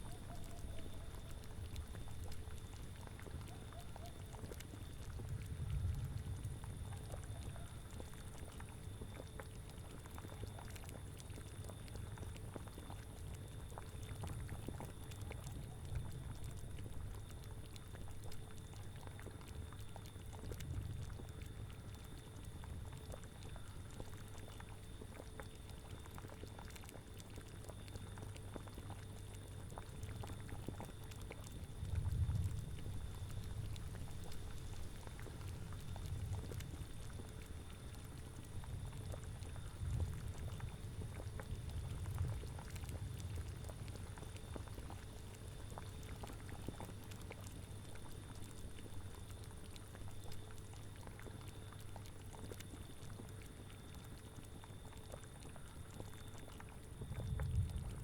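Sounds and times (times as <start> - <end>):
faint steady hum: 0.0 - 58.0
liquid boiling and bubbling: 0.0 - 58.0.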